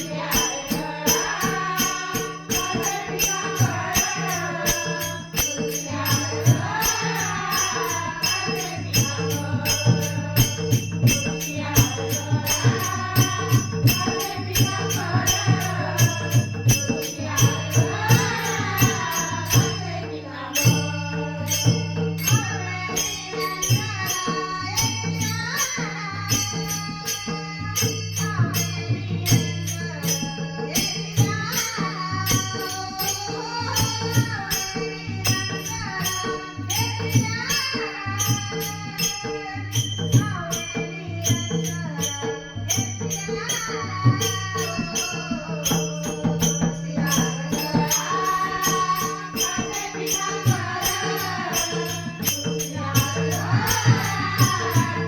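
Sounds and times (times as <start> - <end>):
devotional singing: 0.0 - 55.0
jingling percussion: 0.0 - 55.0.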